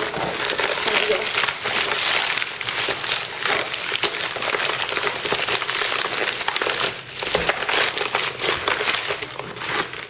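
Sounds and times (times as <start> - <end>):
plastic mailer bag crinkling: 0.0 - 10.0.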